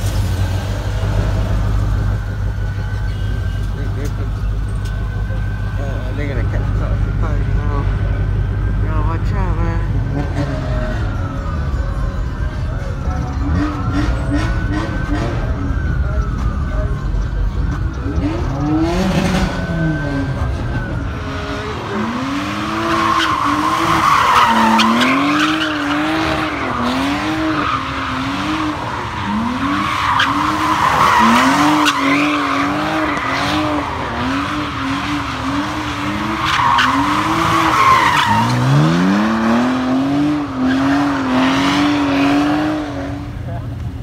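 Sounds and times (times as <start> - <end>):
tire squeal: 0.0 - 6.2, 10.1 - 43.1
car engine revving: 0.0 - 12.0, 12.8 - 44.0.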